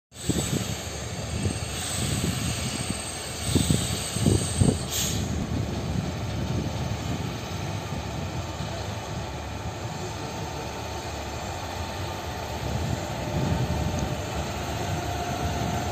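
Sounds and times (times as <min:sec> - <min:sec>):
freight train rumble: 0:00.1 - 0:15.9.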